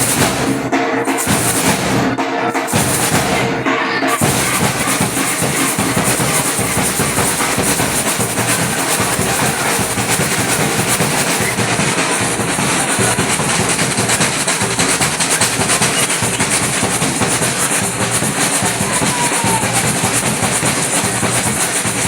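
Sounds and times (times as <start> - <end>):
samba drum ensemble playing: 0.0 - 22.0.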